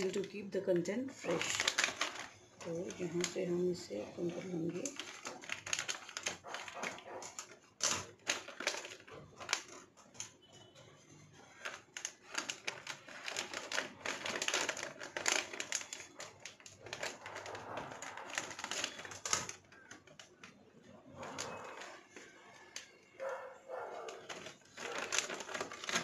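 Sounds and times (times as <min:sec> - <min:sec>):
plastic packet crinkling: 0:00.0 - 0:10.4, 0:11.4 - 0:26.0
scissors snipping plastic packet: 0:00.0 - 0:10.4, 0:11.5 - 0:26.0.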